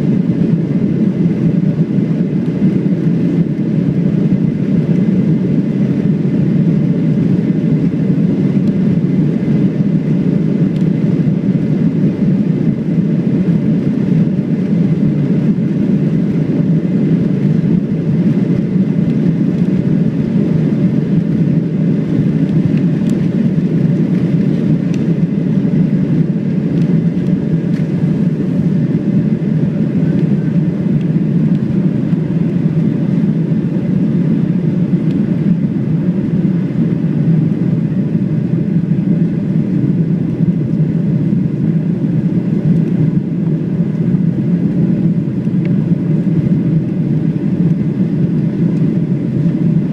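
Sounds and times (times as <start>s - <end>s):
jet engine rumble in cabin: 0.0s - 49.9s.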